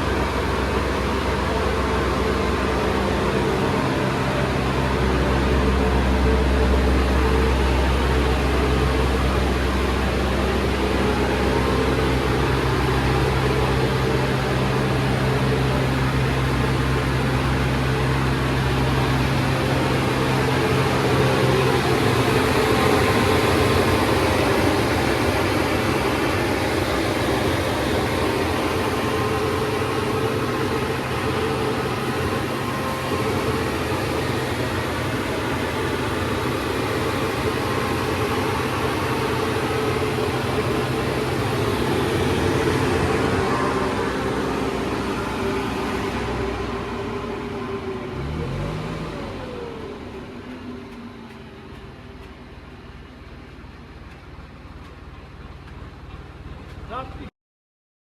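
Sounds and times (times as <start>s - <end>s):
fan-like rushing noise: 0.0s - 50.4s
machine engine hum: 0.0s - 57.3s.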